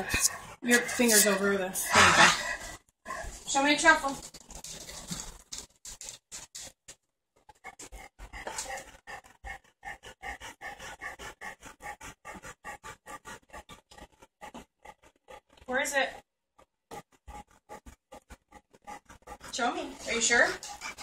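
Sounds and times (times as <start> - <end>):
dog panting: 0.0 - 6.8, 7.4 - 21.0.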